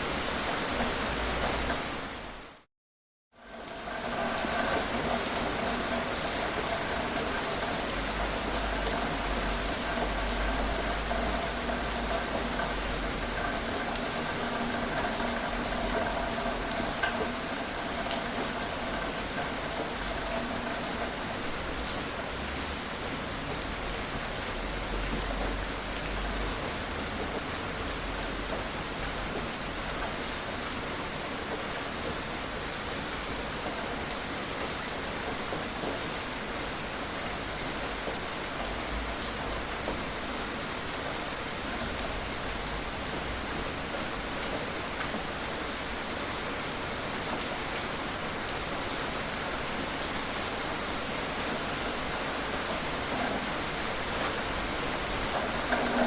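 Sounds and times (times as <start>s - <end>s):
gentle rain falling: 0.0s - 2.7s, 3.3s - 56.0s.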